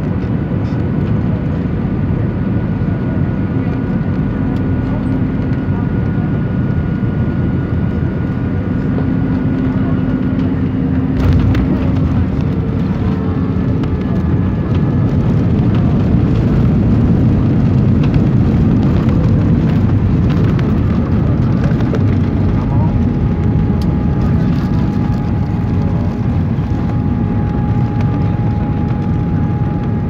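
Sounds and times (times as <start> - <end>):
airliner engine drone in cabin: 0.0 - 30.0
landing gear rumbling on runway: 3.2 - 30.0.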